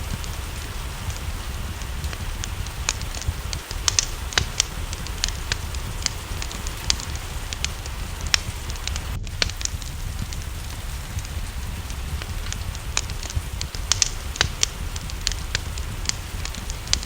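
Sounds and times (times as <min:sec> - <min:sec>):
low rumble: 0:00.0 - 0:17.0
rain hissing: 0:00.0 - 0:17.0
wood fire crackling: 0:00.0 - 0:17.0.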